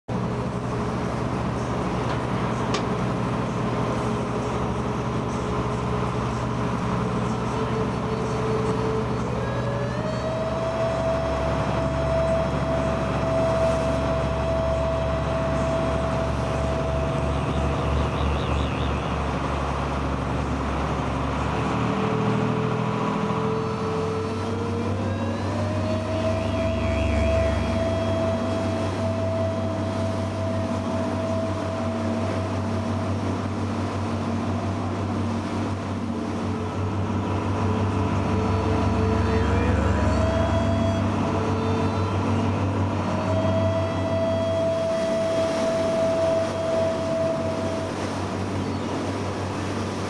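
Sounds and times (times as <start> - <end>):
boat engine running: 0.0 - 50.0
engine whine rising: 0.1 - 50.0.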